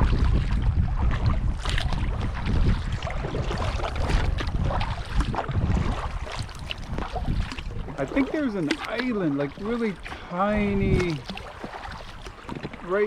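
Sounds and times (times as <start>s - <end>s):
paddle blades splashing: 0.0s - 13.0s
wind buffeting microphone: 0.0s - 13.0s.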